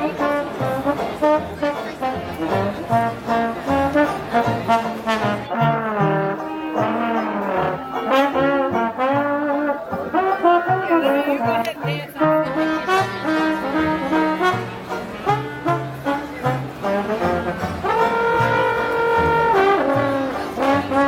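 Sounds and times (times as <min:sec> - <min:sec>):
brass jazz music: 0:00.0 - 0:21.0.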